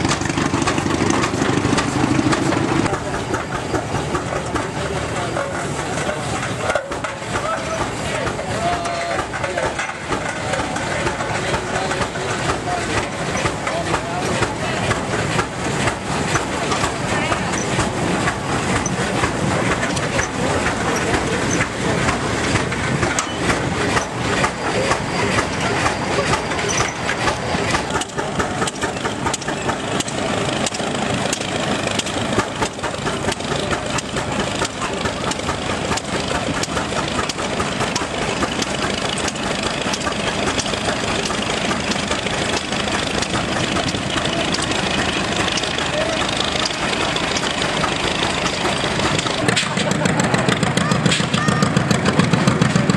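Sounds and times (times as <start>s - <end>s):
steam engine exhaust chuffing: 0.0s - 52.9s
tractor engine running: 0.0s - 52.9s.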